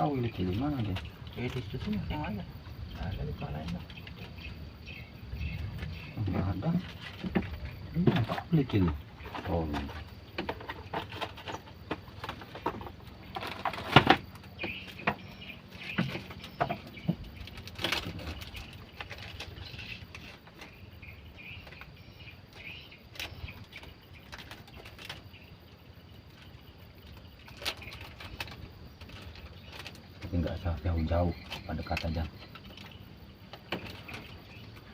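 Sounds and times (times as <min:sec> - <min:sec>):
faint bird chirping: 0:00.0 - 0:34.9.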